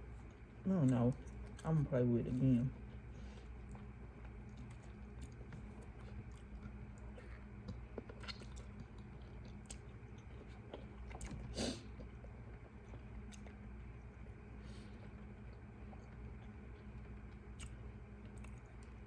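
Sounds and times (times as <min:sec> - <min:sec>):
low steady hum: 0:00.0 - 0:19.0
person chewing food: 0:00.0 - 0:19.0.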